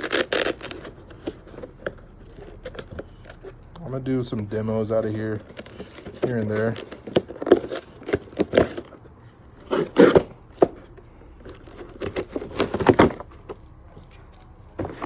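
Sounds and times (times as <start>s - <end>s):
cardboard and plastic rustling: 0.0s - 15.0s
packaging tearing: 0.0s - 15.0s.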